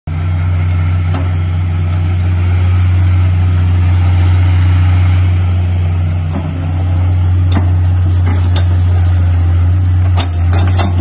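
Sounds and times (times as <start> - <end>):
excavator diesel engine droning: 0.1 - 11.0.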